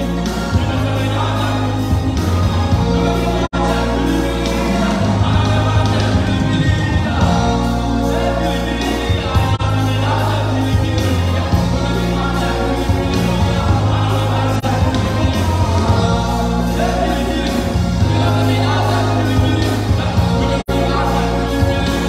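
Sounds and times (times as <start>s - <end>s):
live music with vocals and beat: 0.0s - 22.0s.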